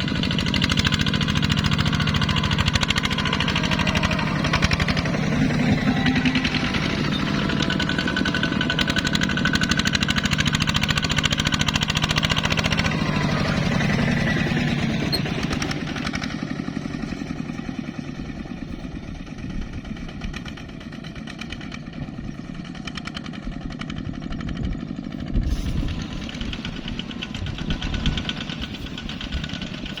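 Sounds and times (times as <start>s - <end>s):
tractor diesel engine knocking: 0.0s - 30.0s.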